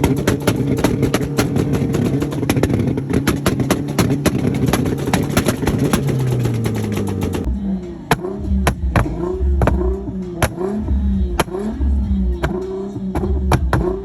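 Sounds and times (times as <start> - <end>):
car engine revving: 0.0 - 14.0
exhaust cracks: 0.0 - 14.0.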